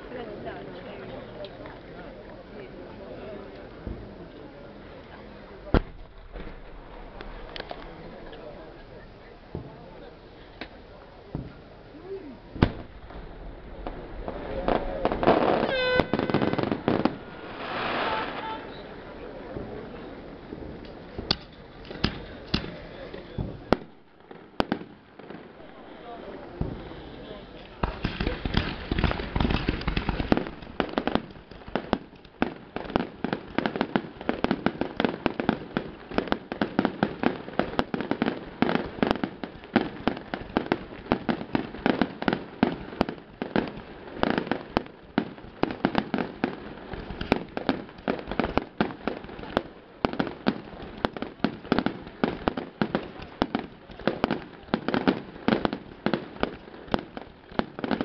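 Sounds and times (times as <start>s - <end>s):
fireworks barrage of bangs: 5.6s - 10.1s, 12.5s - 58.0s.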